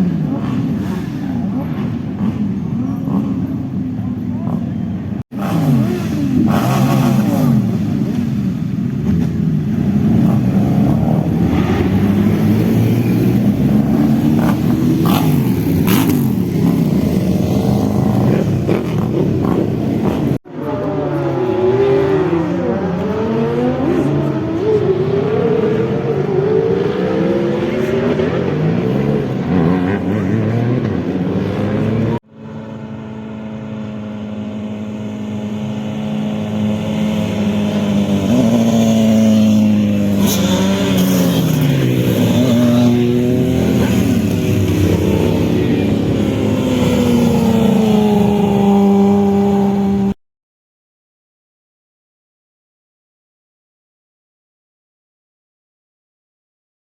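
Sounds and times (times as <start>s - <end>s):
motorcycle engines revving: 0.0s - 50.2s.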